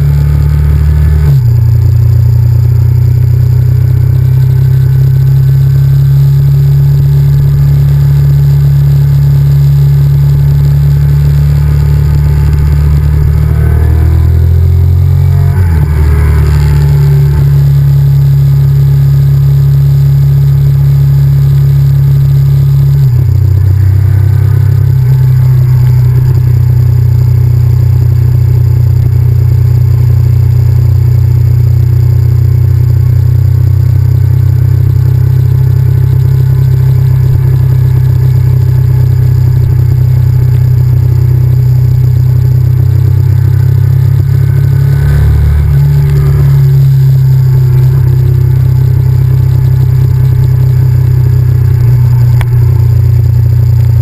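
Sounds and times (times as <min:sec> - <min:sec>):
motorcycle engine rumbling: 0:00.0 - 0:54.0.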